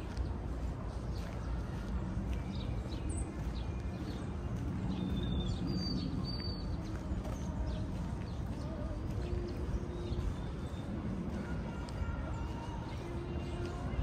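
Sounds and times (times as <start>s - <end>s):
low park background noise: 0.0s - 14.0s
birds chirping and whistling: 0.1s - 14.0s.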